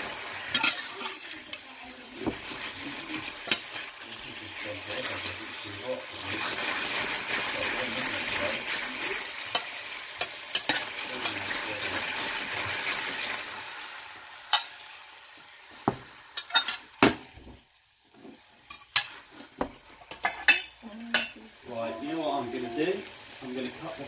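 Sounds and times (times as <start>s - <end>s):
meatballs sizzling in sauce: 0.0s - 24.0s.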